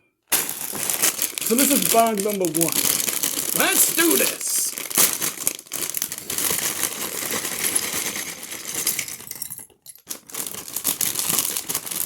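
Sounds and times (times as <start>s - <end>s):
plastic bag crinkling: 0.2s - 9.3s, 10.0s - 12.0s
plastic bricks clattering: 0.3s - 12.0s.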